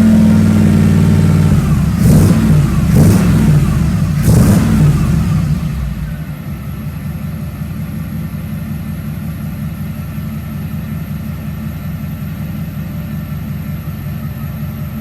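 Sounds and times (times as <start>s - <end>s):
engine idling with thumps: 0.0s - 15.0s.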